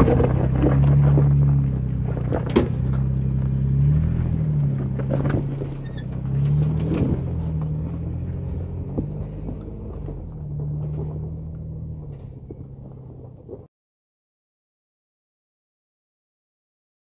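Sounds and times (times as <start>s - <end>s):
truck engine pulling low speed: 0.0s - 13.7s
tyres crunching over rocks: 0.0s - 13.7s.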